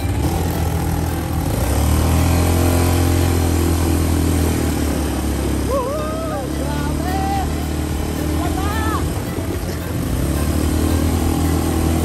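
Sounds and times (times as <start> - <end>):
atv engines running: 0.0 - 12.0
water splashing around wheels: 0.0 - 12.0.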